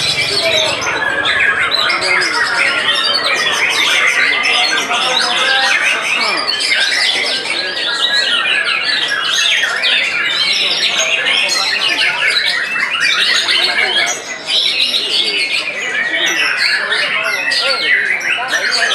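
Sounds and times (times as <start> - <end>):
songbirds singing: 0.0 - 18.9.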